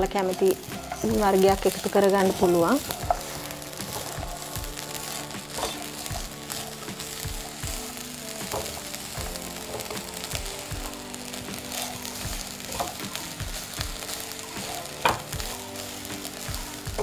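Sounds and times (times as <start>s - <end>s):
rice sizzling in a pan: 0.0s - 17.0s
soft background music: 0.0s - 17.0s
spatula scraping and knocking pan: 0.3s - 17.0s.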